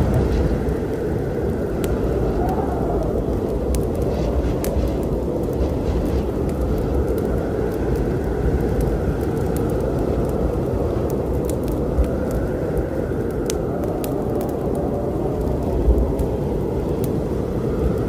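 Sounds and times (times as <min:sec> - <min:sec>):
storm rumble: 0:00.0 - 0:18.0
wood fire crackling: 0:00.0 - 0:18.0.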